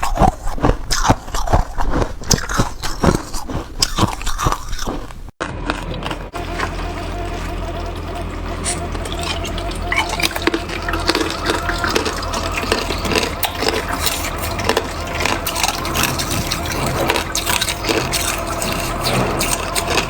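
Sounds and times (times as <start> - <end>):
ice being chewed: 0.0 - 20.0
low hum: 0.0 - 20.0.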